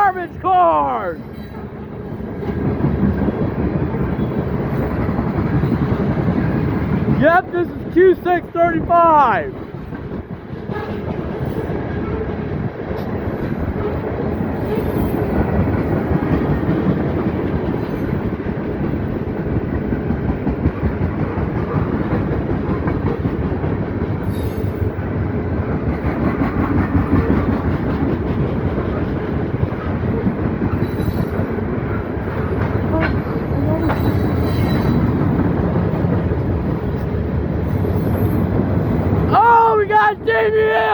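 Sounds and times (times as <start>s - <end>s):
rapid clicking of train wheels: 0.0s - 39.4s
freight train wheels rumbling: 0.0s - 40.9s.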